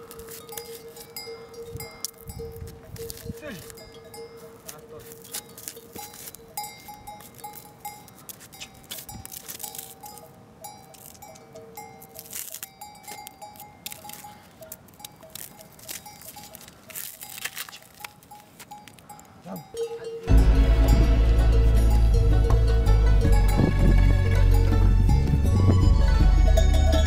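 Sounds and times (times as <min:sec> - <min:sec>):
animal bells clanking: 0:00.0 - 0:27.0.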